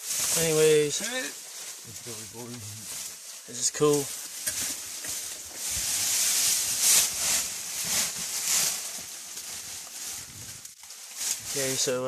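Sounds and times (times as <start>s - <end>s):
jacket brushing against microphone: 0.0s - 12.0s
rustling and scuffing of crawling: 0.0s - 12.0s.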